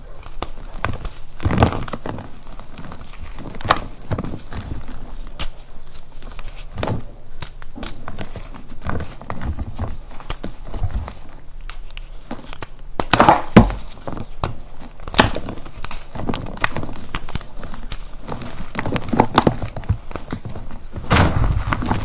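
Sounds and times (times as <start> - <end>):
hands crushing chalk: 0.0 - 22.0.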